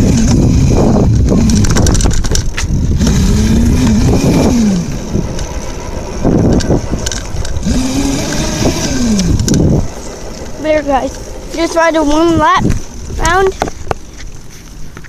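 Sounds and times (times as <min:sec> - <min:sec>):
dirt bike engine revving: 0:00.0 - 0:13.4.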